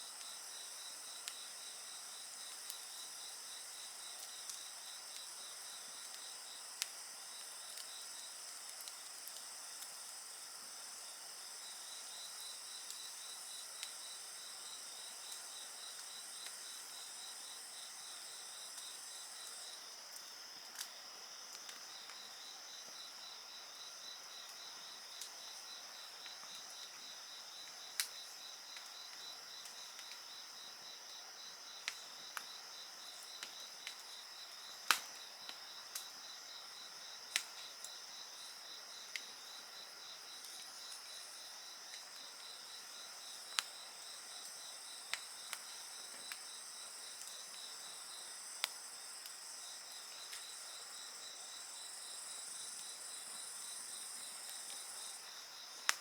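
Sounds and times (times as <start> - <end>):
crickets chirping: 0.0 - 56.0
wood fire crackles and pops: 0.1 - 22.4, 24.4 - 30.4, 31.1 - 36.2, 36.9 - 50.6, 52.2 - 56.0.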